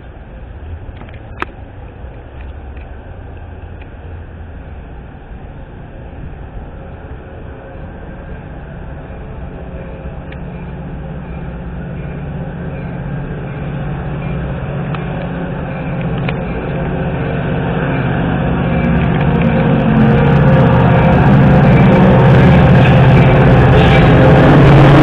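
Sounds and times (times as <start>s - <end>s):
diesel locomotive engine drone: 0.0s - 25.0s.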